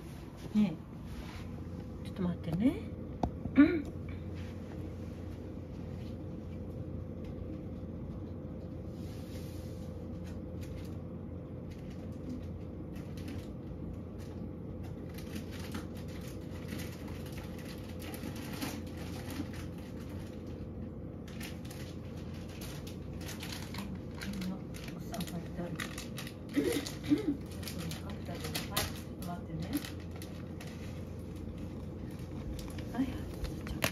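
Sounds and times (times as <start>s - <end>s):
low room hum: 0.0s - 33.9s.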